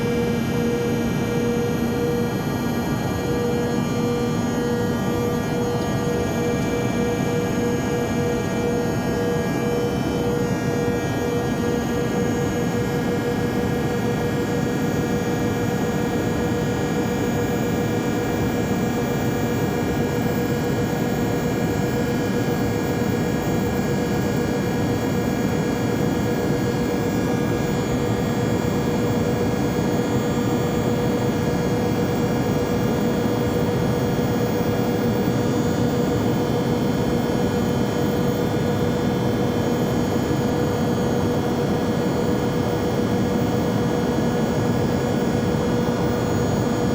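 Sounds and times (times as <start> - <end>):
jet cabin drone: 0.0 - 46.9.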